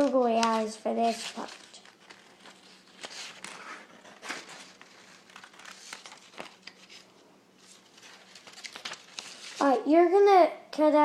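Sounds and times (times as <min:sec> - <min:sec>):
paper crinkling and rustling: 0:00.0 - 0:09.7
sharp paper crackles: 0:00.0 - 0:09.7.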